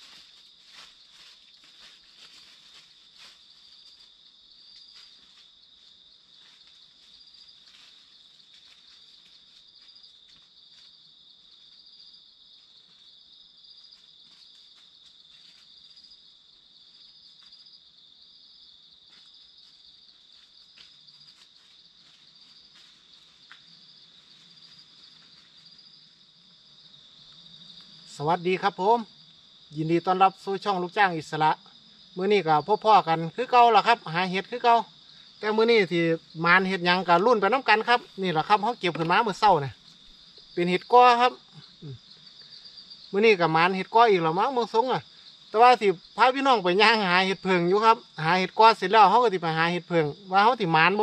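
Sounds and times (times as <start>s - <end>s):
faint ticks and crackles: 0.0s - 51.0s
insects trilling: 0.0s - 51.0s.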